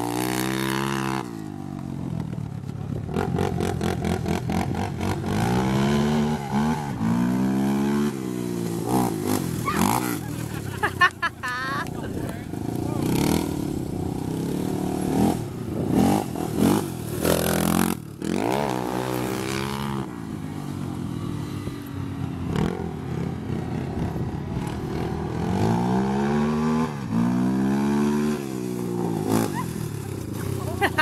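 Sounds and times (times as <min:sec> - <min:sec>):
off-road engines revving: 0:00.0 - 0:31.0.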